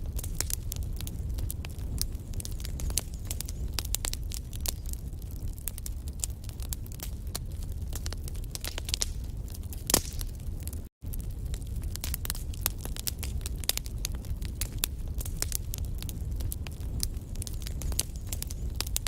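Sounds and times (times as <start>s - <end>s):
low rumble of flames: 0.0s - 19.0s
sharp fire pops: 0.0s - 19.0s
wood fire crackling: 0.0s - 19.0s.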